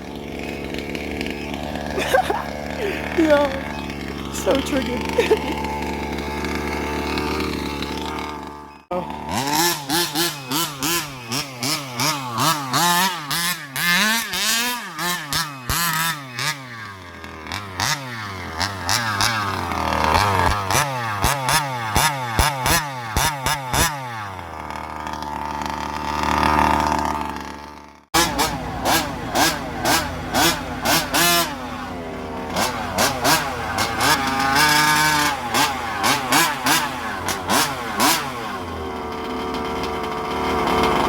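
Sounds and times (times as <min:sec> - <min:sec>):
rc car engine revving: 0:00.0 - 0:41.0.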